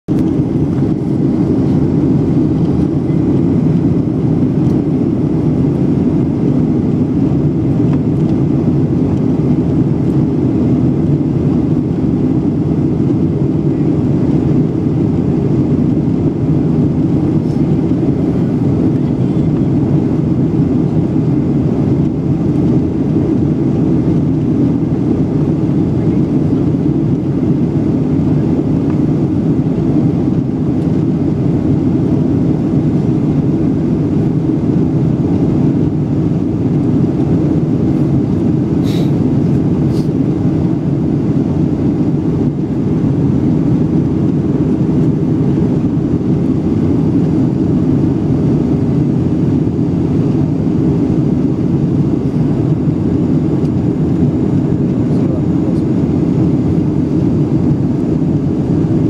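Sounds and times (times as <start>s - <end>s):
airplane cabin noise: 0.1s - 59.0s.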